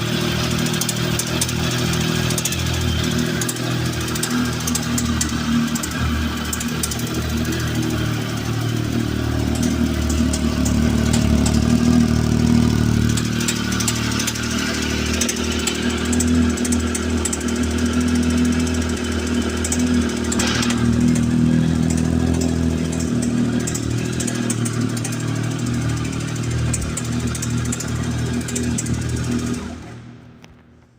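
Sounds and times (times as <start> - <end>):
engine knock ticking: 0.0 - 30.1
motorcycle engine running: 0.0 - 30.9.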